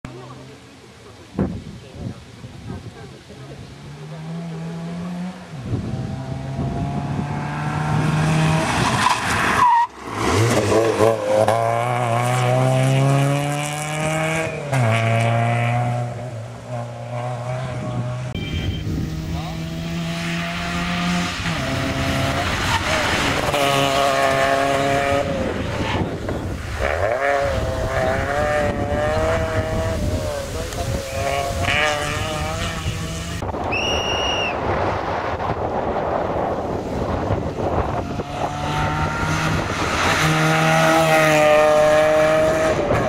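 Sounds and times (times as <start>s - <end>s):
rally car engine revving: 3.5s - 33.6s, 34.6s - 43.0s.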